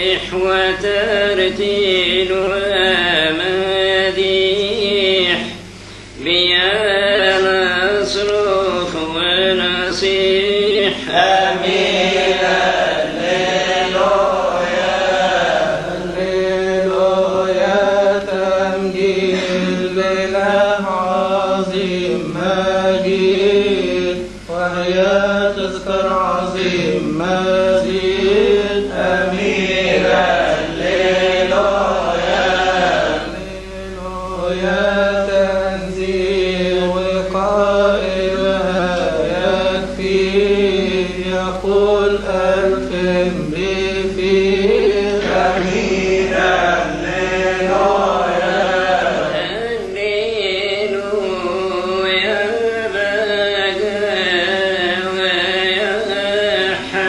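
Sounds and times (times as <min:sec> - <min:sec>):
man chanting a hymn: 0:00.0 - 0:57.0
steady low hum: 0:00.0 - 0:57.0.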